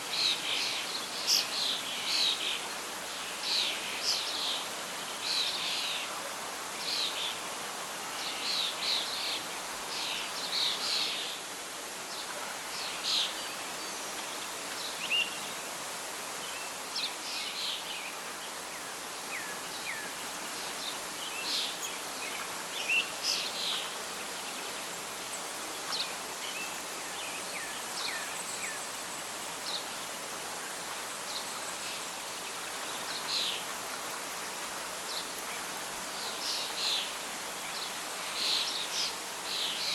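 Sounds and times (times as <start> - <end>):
rustling leaves: 0.0 - 39.9
wind: 0.0 - 39.9.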